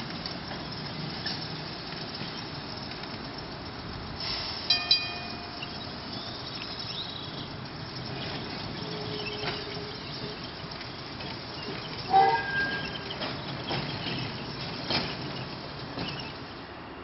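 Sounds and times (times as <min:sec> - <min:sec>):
streetcar rolling on track: 0:00.0 - 0:17.0.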